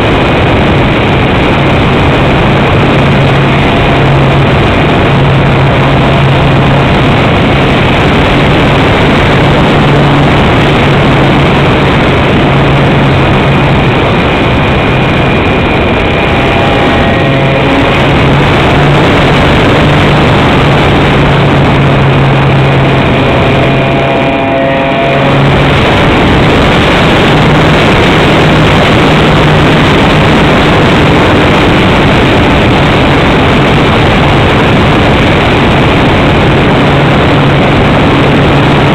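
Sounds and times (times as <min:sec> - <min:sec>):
motor and propeller humming: 0:00.0 - 0:38.9
rushing wind noise: 0:00.0 - 0:38.9.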